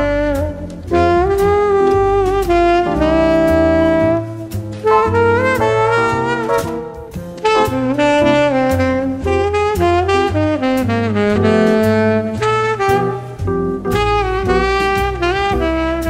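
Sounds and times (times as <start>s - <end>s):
bass line: 0.0s - 16.0s
jazz music with saxophone melody: 0.0s - 16.0s
steady drum beat: 0.0s - 16.0s.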